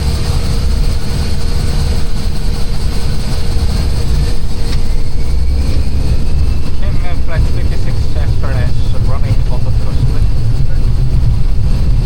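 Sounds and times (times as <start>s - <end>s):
airliner low rumble: 0.0s - 12.0s.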